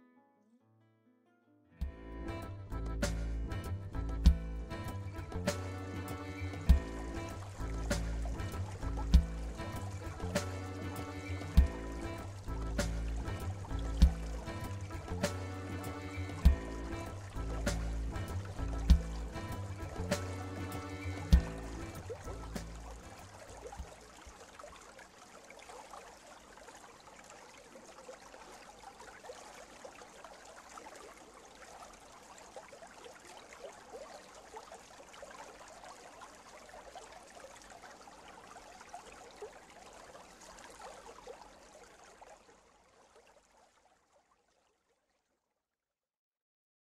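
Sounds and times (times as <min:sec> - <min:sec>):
water trickling and bubbling: 0:03.0 - 0:45.6.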